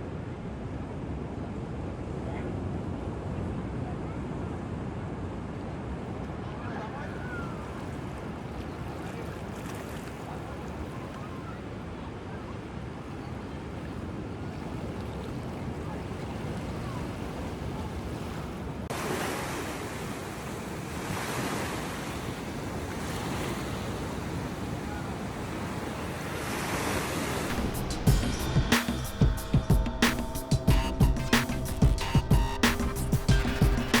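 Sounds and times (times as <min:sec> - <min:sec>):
ocean waves washing on shore: 0:00.0 - 0:28.7.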